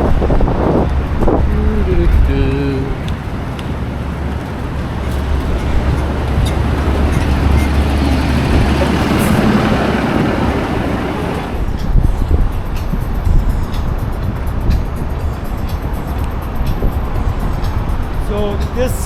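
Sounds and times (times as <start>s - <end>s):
city street traffic: 0.0s - 19.0s
wind rumble on microphone: 0.0s - 19.0s.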